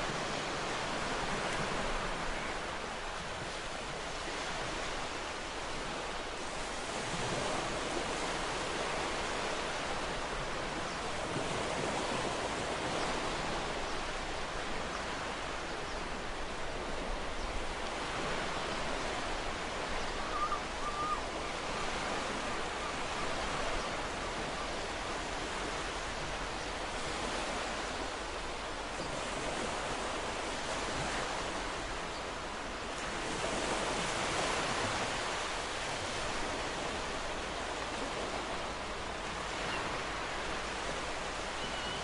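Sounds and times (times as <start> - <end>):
waves breaking on shore: 0.0 - 42.0.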